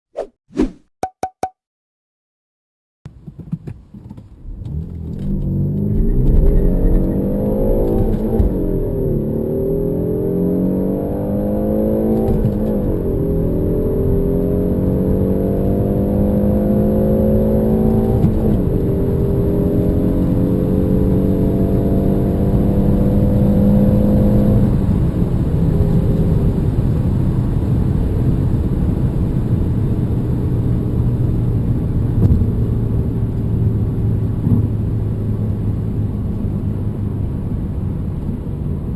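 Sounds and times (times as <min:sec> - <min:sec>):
road noise: 0:03.1 - 0:38.9
car engine accelerating hard: 0:04.3 - 0:38.9.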